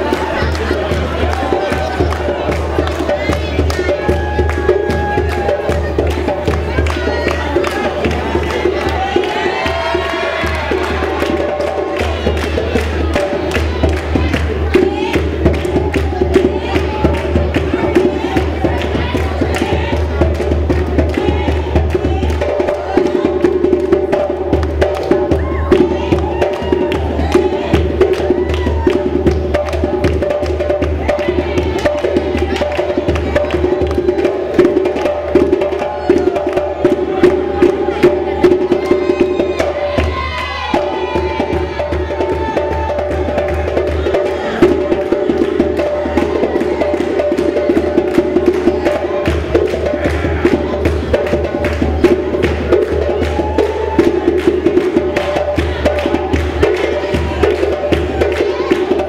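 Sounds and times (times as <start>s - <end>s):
music with fast dense drumming: 0.0s - 59.0s.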